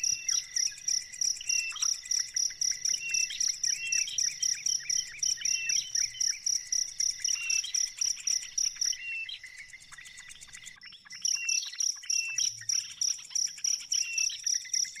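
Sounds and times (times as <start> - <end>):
insect trilling: 0.0 - 14.6.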